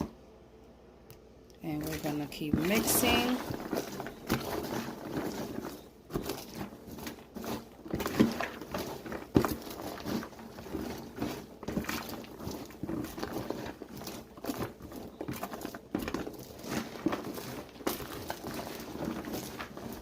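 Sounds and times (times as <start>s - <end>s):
popcorn rustling in a bowl: 1.2s - 20.0s.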